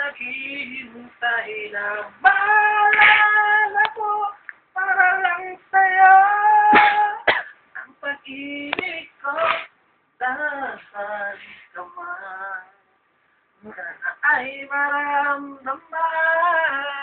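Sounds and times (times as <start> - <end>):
man singing unaccompanied: 0.0 - 12.9, 13.6 - 17.0.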